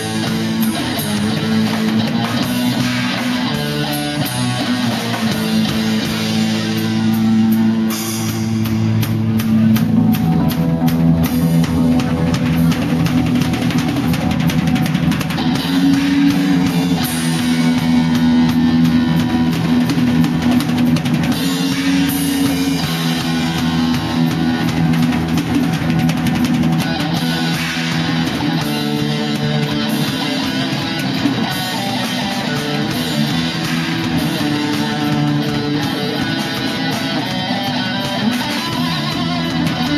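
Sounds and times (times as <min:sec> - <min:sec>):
busy rock drumming: 0:00.0 - 0:39.9
sustained guitar notes: 0:00.0 - 0:39.9.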